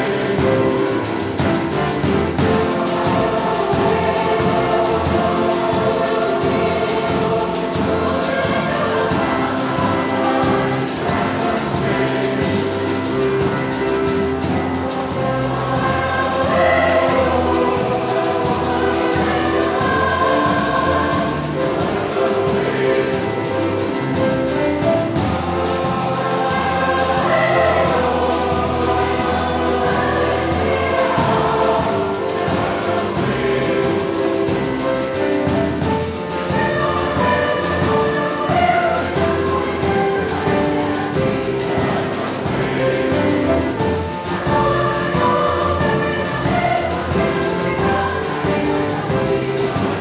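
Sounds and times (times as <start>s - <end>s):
choir singing: 0.0s - 50.0s.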